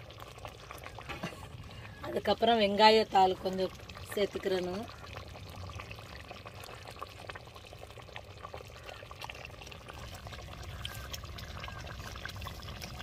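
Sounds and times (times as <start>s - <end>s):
gravy simmering and bubbling: 0.0s - 13.0s.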